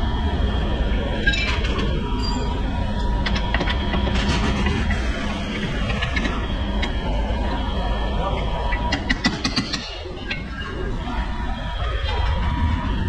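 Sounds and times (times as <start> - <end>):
low workshop rumble: 0.0 - 13.0.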